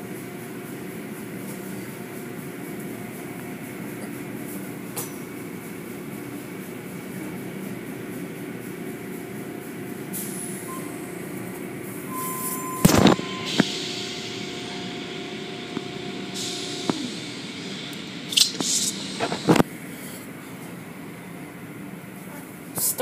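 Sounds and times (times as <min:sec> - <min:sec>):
car wash machinery humming: 0:00.0 - 0:23.0.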